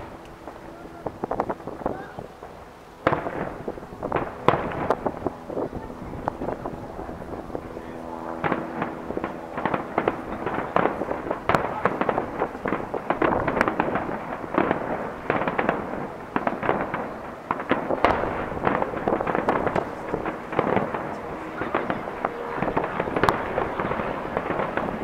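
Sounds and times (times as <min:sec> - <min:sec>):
firework bangs and crackles: 0:00.0 - 0:25.0.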